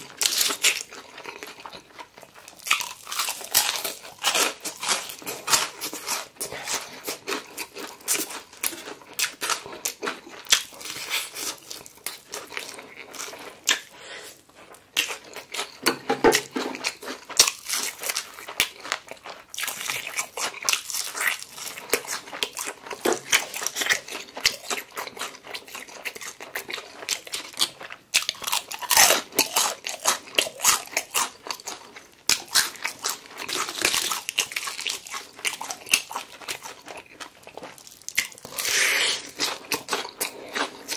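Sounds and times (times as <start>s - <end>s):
chewing: 0.0s - 40.9s
crunching fried chicken: 0.0s - 40.9s.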